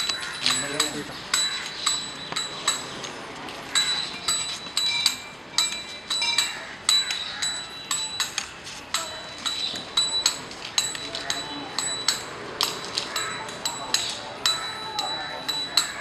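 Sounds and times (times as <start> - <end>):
metal percussion clanging: 0.0 - 16.0.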